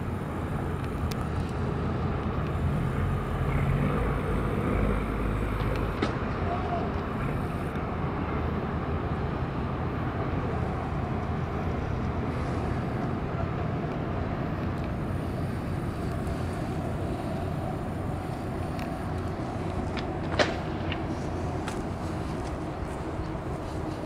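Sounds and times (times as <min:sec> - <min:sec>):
boat engine rumble: 0:00.0 - 0:24.0.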